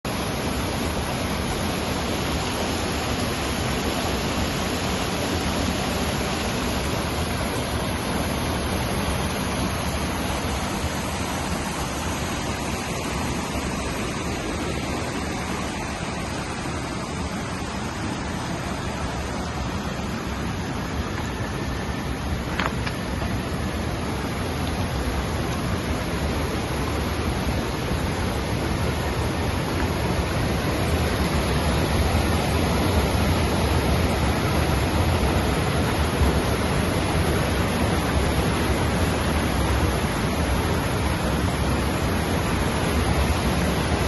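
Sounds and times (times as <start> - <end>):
steady rushing noise outdoors: 0.0 - 44.0.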